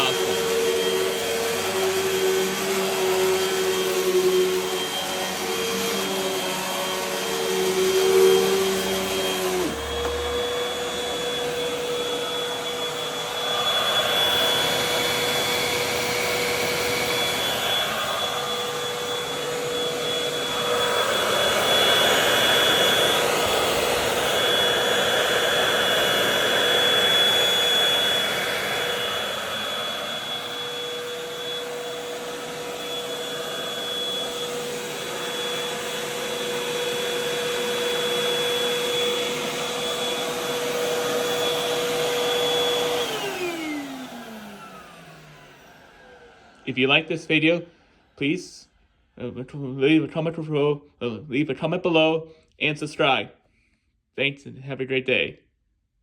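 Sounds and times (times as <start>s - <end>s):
upright vacuum cleaner running: 0.0s - 48.2s.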